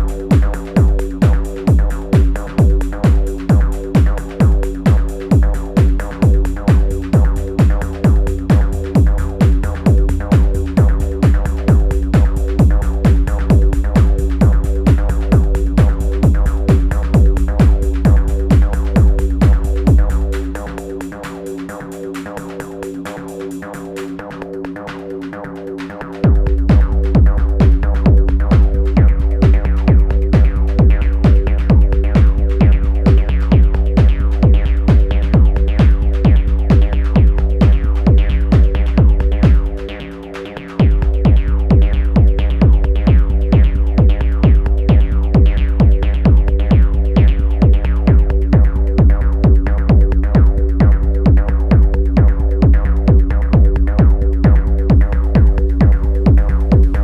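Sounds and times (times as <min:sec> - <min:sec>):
kick drum pulse: 0:00.0 - 0:20.7, 0:26.2 - 0:39.9, 0:40.8 - 0:57.0.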